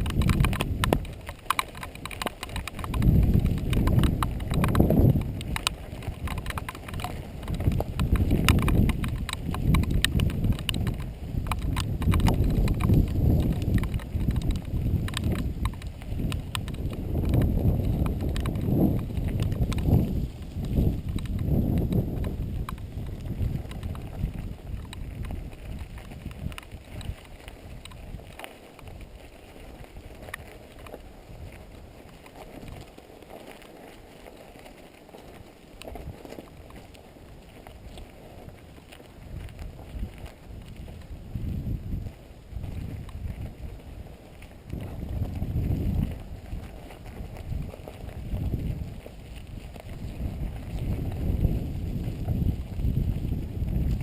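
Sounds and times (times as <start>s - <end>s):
mountain bike rattling over dirt: 0.0s - 54.0s
wind on microphone: 0.0s - 54.0s.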